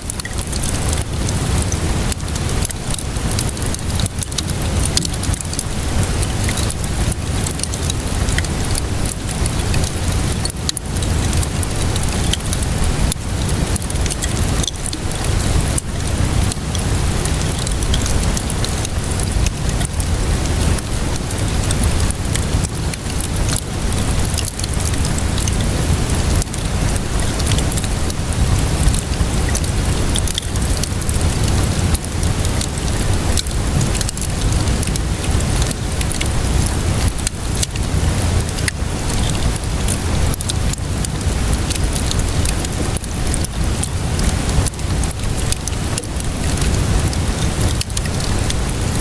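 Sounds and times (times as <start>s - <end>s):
steady rainfall: 0.0s - 49.0s
wood fire crackling: 0.0s - 49.0s.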